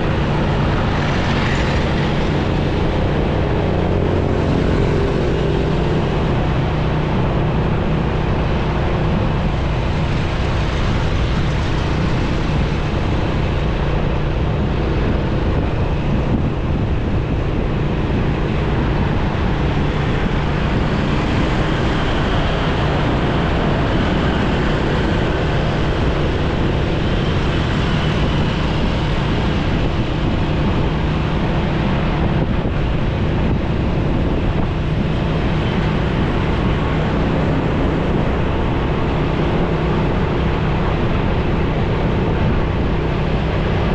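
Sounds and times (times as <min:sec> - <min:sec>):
road traffic: 0:00.0 - 0:43.9
wind rushing over microphone: 0:00.0 - 0:43.9.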